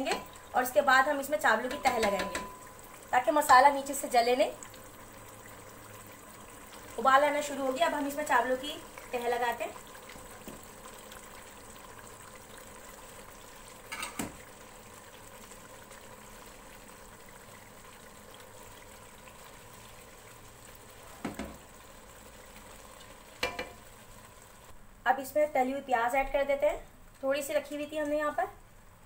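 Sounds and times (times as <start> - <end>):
gravy bubbling in a pot: 0.0 - 24.8.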